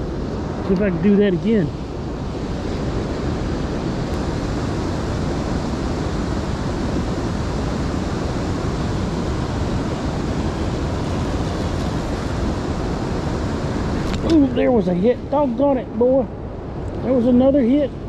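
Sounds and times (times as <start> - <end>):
river water rushing over dam: 0.0 - 18.0.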